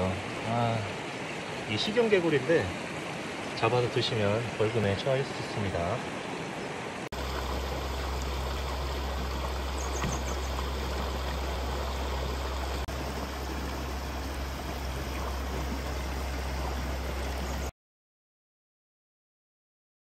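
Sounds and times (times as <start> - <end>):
water rushing over stones: 0.0 - 17.7.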